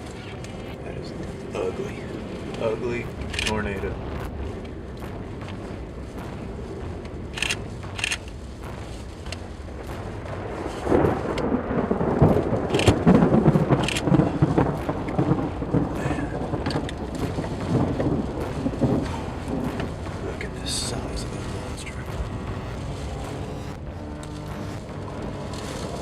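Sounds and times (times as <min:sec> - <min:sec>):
storm rumble: 0:00.0 - 0:26.0
sharp ticks: 0:02.3 - 0:26.0.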